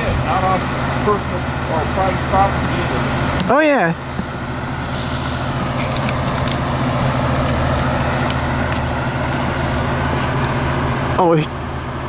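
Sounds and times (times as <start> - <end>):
large vehicle engine idling: 0.0 - 12.0.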